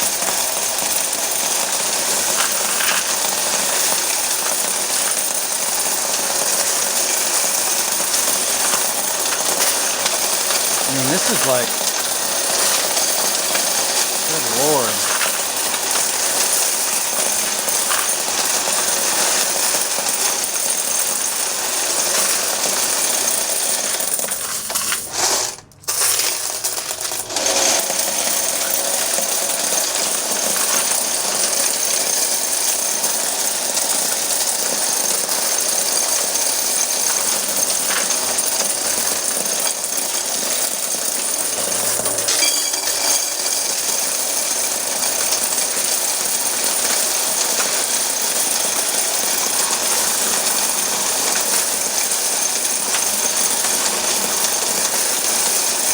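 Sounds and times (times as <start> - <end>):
coin counting machine rattling: 0.0 - 55.9.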